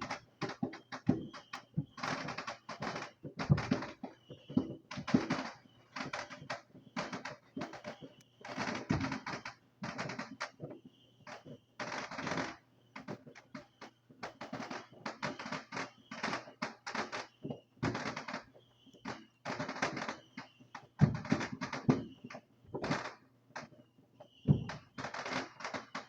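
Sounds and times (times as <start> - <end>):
fireworks popping and crackling: 0.0 - 26.0.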